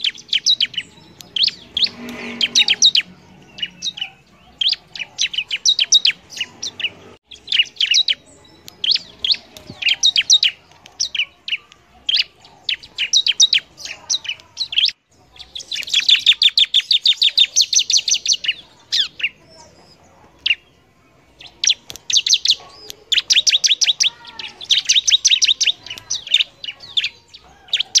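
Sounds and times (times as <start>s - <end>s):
bird singing rapid trills: 0.0s - 28.0s.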